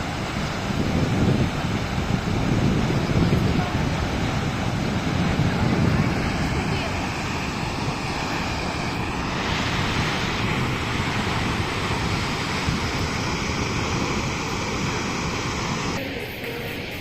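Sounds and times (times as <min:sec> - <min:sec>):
wind on microphone: 0:00.0 - 0:16.0
waterfall rushing: 0:00.0 - 0:17.0.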